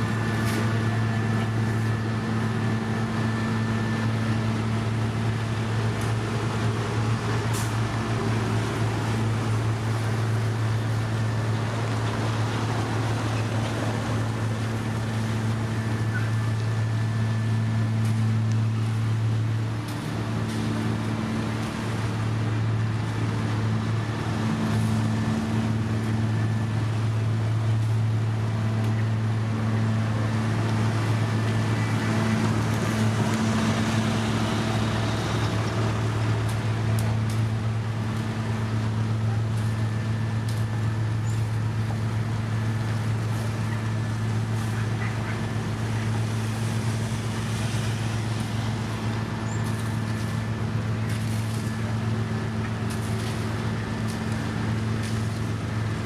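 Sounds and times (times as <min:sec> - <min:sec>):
paving machine engine running: 0:00.0 - 0:56.0.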